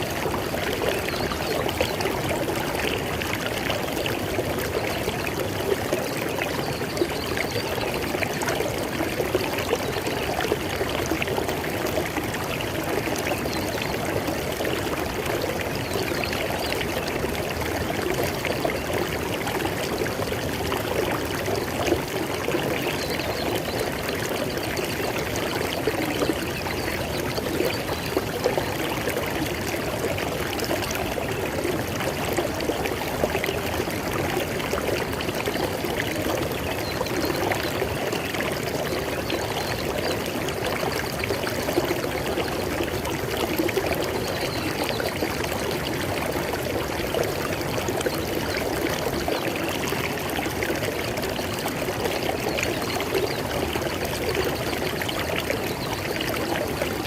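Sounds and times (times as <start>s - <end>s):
river water flowing and splashing: 0.0s - 57.0s.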